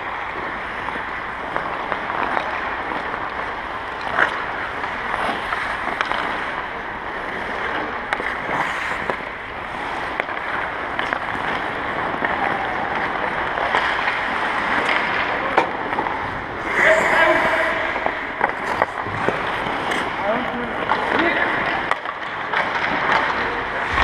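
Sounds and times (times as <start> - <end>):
sharp clacks of sticks and pucks: 0.0 - 24.0
skates scraping on ice: 0.0 - 24.0.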